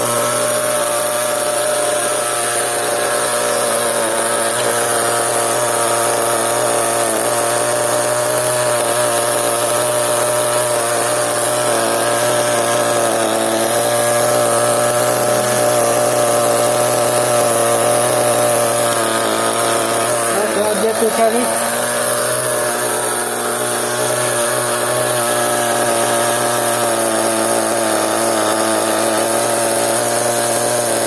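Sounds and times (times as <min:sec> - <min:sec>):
small nitro engine running: 0:00.0 - 0:31.0.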